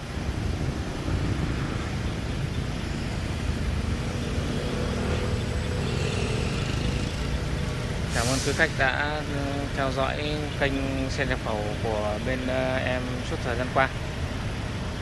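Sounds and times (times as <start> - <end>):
low rumble of motor vehicle: 0.0 - 15.0.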